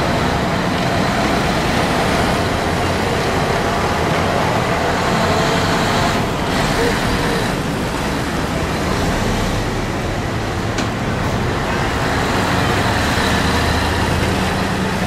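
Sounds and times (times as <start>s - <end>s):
diesel truck engines: 0.0s - 15.0s.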